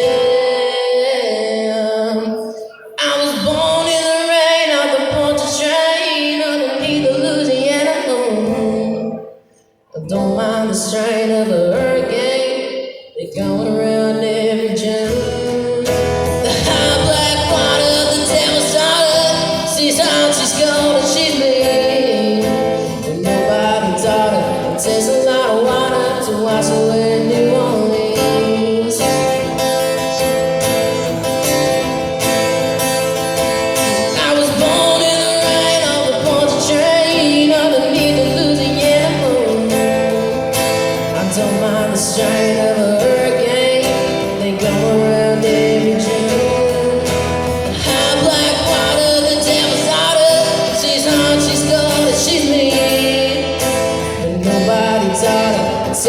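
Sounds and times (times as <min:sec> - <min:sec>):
acoustic guitar: 0:00.0 - 0:56.0
person singing: 0:00.0 - 0:56.0.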